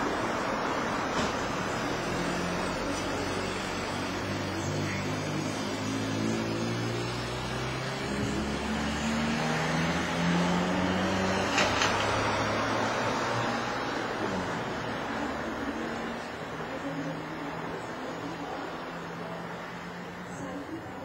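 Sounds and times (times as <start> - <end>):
street traffic noise: 0.0 - 21.0
vehicle engine hum shifting gears: 0.0 - 21.0.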